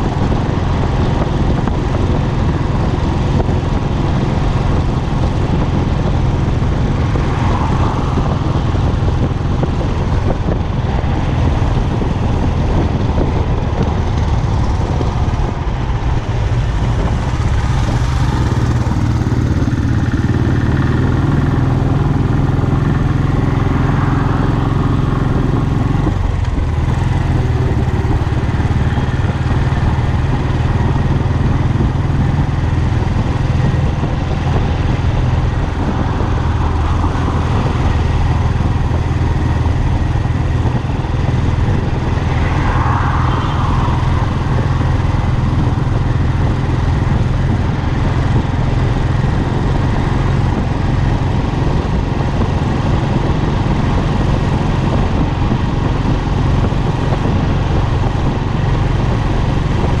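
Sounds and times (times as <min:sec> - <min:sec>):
motorcycle engine running: 0:00.0 - 1:00.0
road noise: 0:00.0 - 1:00.0
wind noise: 0:00.0 - 1:00.0.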